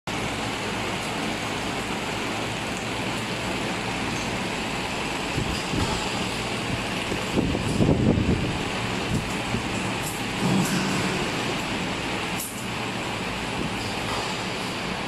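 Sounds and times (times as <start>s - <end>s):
industrial fans rushing air: 0.1s - 15.0s.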